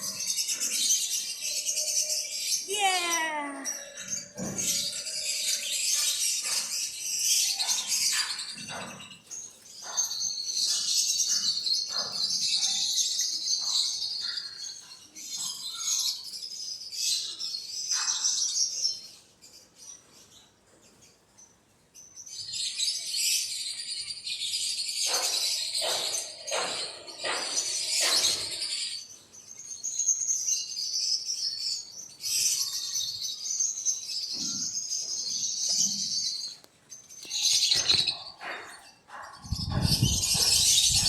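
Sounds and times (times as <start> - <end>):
flock of birds chirping: 0.0 - 41.0.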